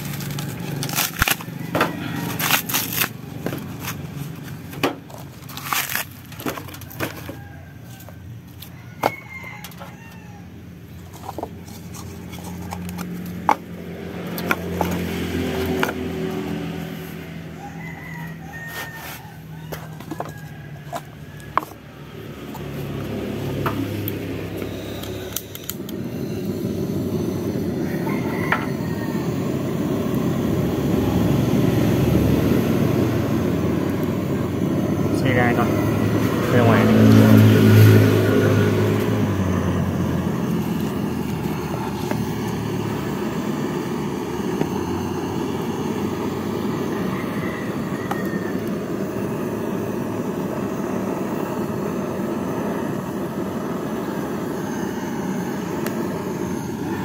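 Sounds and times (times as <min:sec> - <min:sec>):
rooster crowing: 0:00.4 - 0:04.4, 0:05.6 - 0:57.0.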